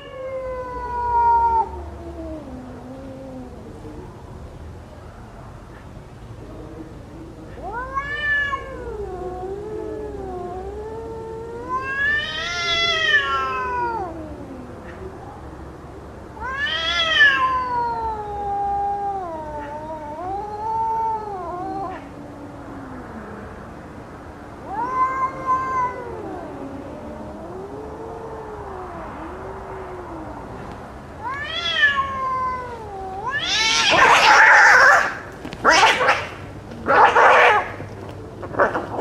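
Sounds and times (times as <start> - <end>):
cats yowling: 0.0 - 4.1, 7.4 - 15.7, 16.3 - 23.6, 24.6 - 39.0.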